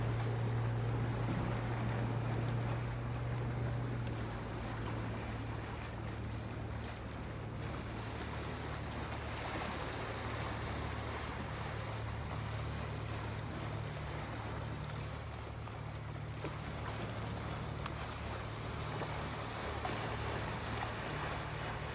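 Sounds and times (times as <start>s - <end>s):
boat engine humming: 0.0s - 21.9s
wind: 0.0s - 21.9s.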